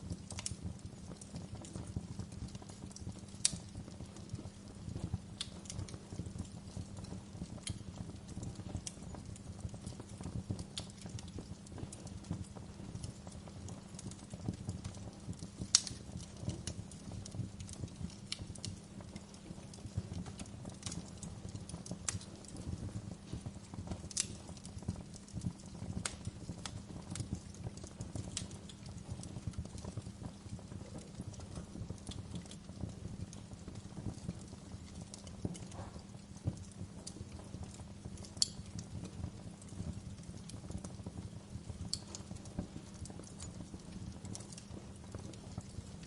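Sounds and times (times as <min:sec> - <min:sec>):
low rumble of flames: 0:00.0 - 0:46.0
wood fire crackling and popping: 0:00.0 - 0:46.0.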